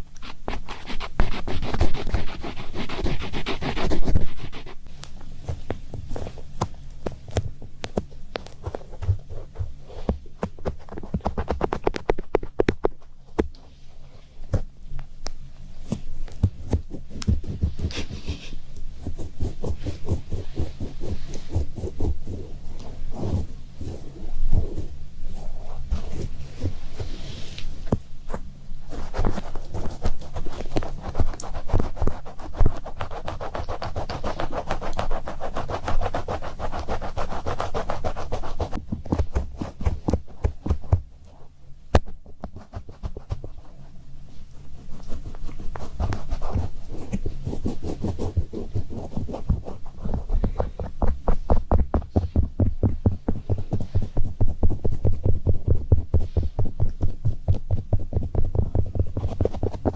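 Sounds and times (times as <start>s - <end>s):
scratching and rubbing: 0.0s - 14.7s, 15.8s - 59.9s.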